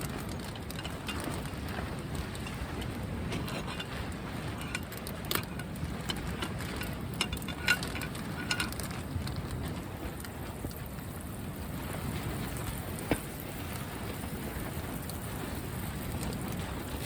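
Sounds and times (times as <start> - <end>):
small crackles and clicks: 0.0 - 17.0
wind buffeting microphone: 0.0 - 17.0.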